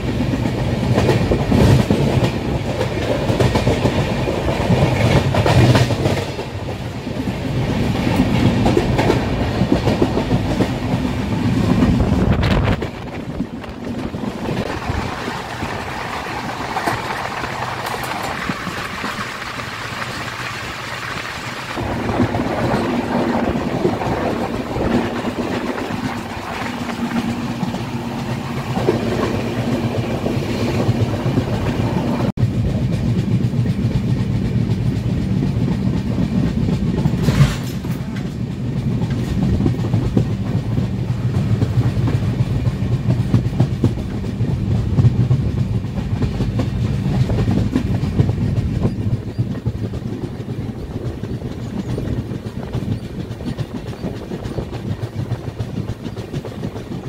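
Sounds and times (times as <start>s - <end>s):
train wheels clattering over joints: 0.2s - 57.0s.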